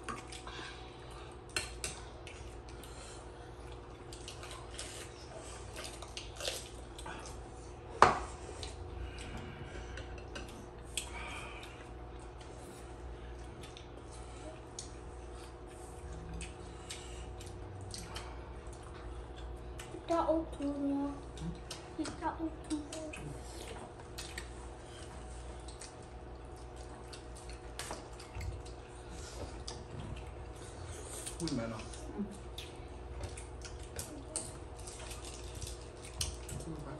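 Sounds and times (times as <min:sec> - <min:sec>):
faint low hum: 0:00.0 - 0:36.9
people chewing: 0:00.0 - 0:36.9.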